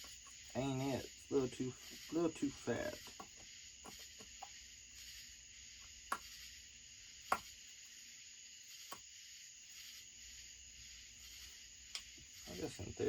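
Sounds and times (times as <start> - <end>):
high-pitched background hum: 0.0 - 13.0.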